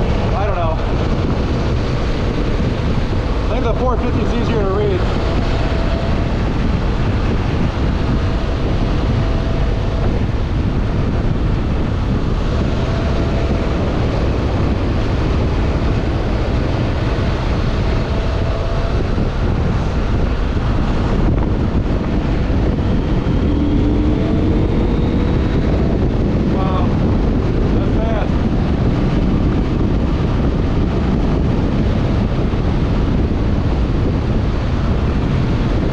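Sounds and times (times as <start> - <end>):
motorcycle engine running: 0.0 - 35.9
wind rushing over microphone: 0.0 - 35.9.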